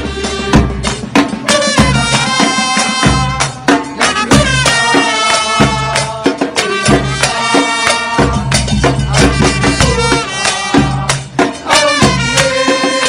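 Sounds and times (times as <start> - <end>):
football fan chant song: 0.0 - 13.0
steady drumming: 0.0 - 13.0.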